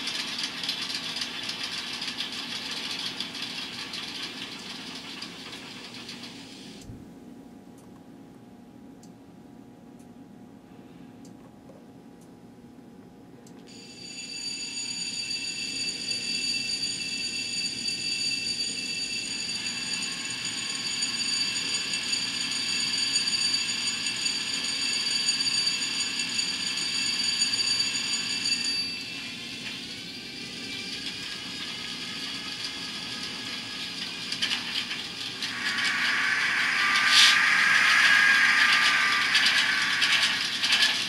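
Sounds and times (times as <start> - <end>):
model locomotive engine sound: 0.0 - 6.8, 13.7 - 41.0.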